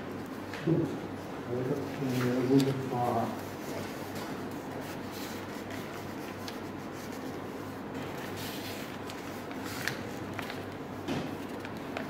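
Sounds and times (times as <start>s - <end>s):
paper rubbing: 1.6s - 12.0s.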